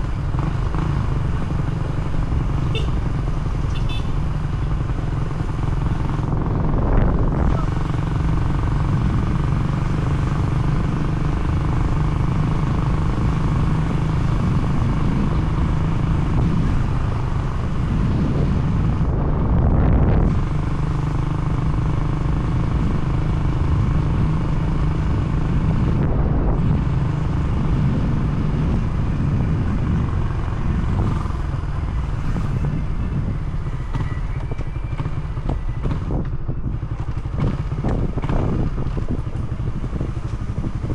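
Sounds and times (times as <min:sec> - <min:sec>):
road and wind noise: 0:00.0 - 0:40.9
vehicle engine running: 0:00.0 - 0:40.9.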